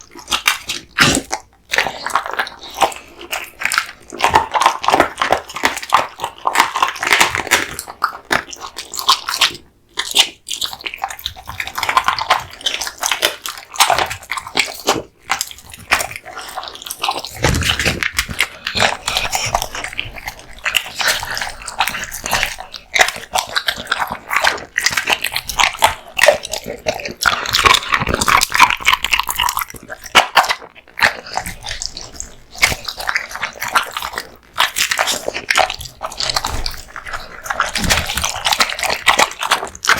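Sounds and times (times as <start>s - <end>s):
dog chewing bones: 0.0s - 39.9s.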